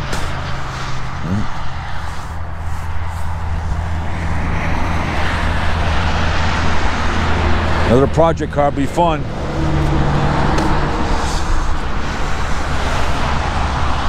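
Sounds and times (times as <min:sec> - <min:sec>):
road and wind noise: 0:00.0 - 0:14.0
vehicle engine hum: 0:00.0 - 0:14.0.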